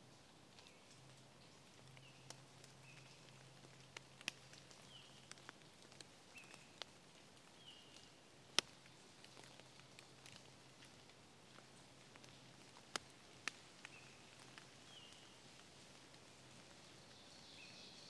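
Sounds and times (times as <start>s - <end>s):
water dripping: 0.0s - 17.2s.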